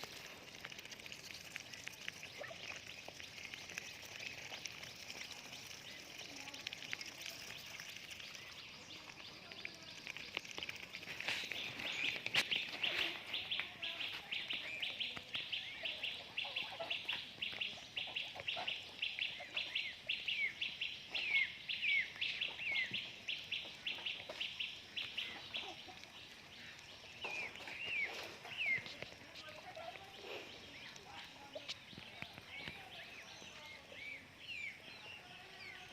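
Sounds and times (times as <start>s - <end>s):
birds peeping: 0.0s - 35.9s.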